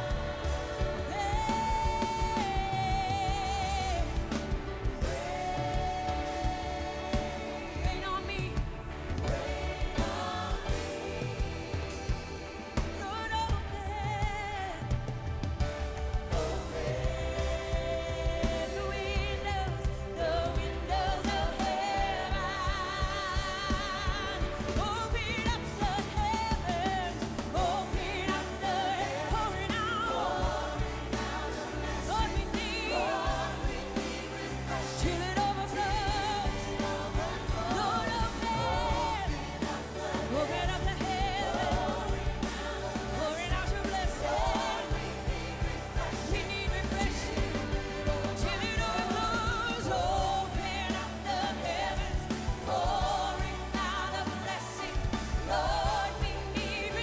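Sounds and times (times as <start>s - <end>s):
drums: 0.0s - 57.0s
keyboard: 0.0s - 57.0s
women singing gospel: 0.0s - 57.0s.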